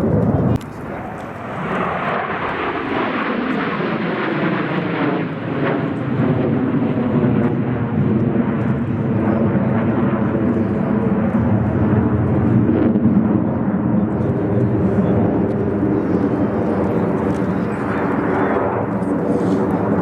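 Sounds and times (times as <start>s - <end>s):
aircraft engine drone: 0.0s - 20.0s.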